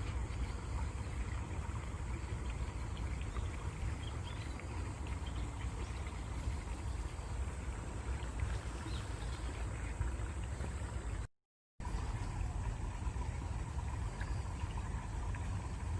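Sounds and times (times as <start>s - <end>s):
stream of water flowing: 0.0s - 15.9s.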